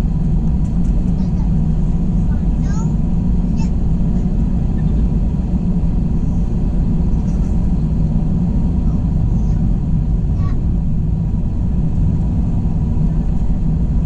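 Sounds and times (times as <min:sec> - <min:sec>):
jet engines rumbling in cabin: 0:00.0 - 0:14.0.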